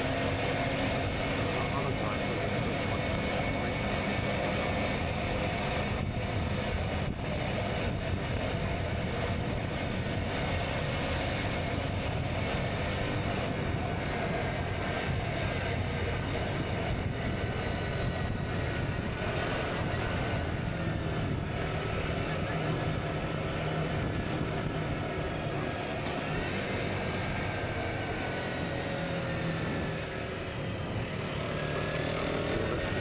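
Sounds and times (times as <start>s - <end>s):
motorcycle engine running: 0.0s - 33.0s
wind rushing past microphone: 0.0s - 33.0s.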